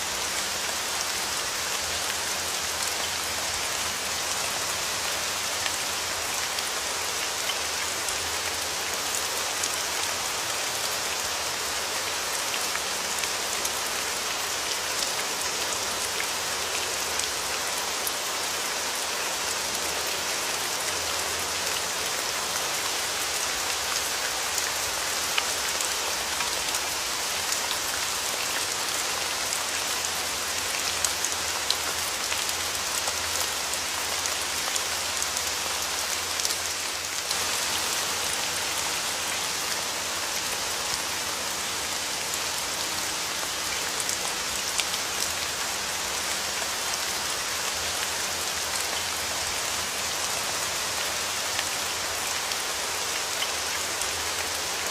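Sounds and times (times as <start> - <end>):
rain falling on a surface: 0.0 - 54.9.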